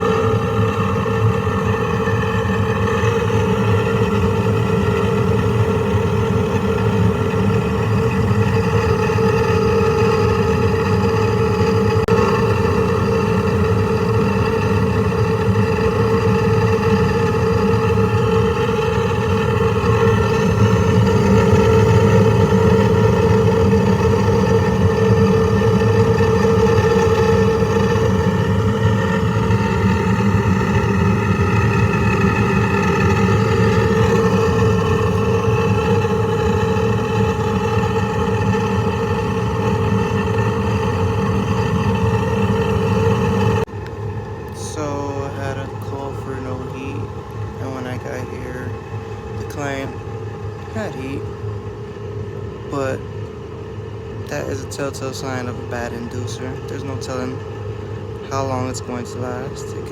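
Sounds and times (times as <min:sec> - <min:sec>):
furnace inducer motor whining: 0:00.0 - 0:59.9.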